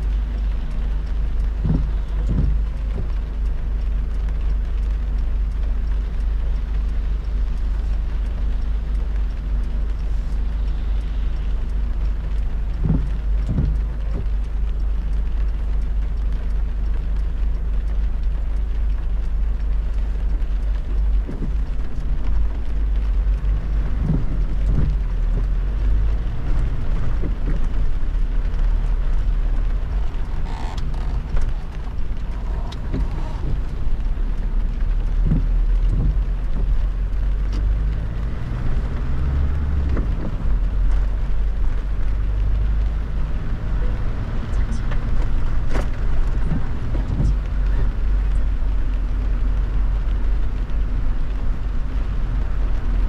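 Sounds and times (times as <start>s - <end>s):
car engine and tyres rumbling: 0.0s - 53.0s
rain and road spray hiss: 0.0s - 53.0s.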